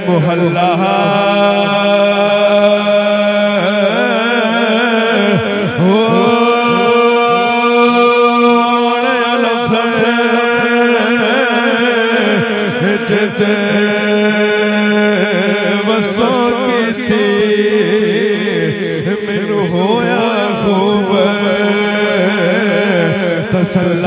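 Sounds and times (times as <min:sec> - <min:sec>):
man chanting through loudspeakers: 0:00.0 - 0:24.0.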